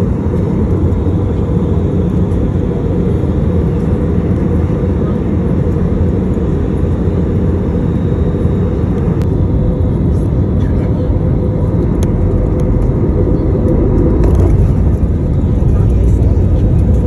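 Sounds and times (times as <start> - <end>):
jet engine rumble and airflow: 0.0 - 17.0.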